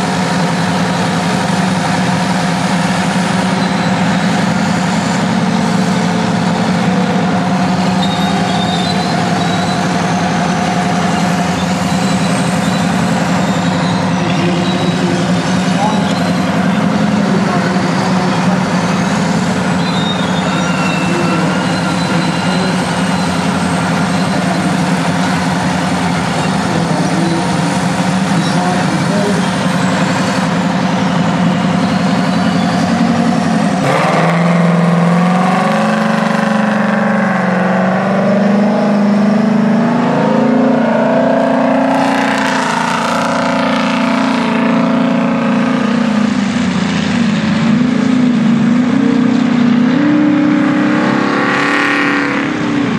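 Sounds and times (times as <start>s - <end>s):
diesel engines revving under load: 0.0s - 52.9s.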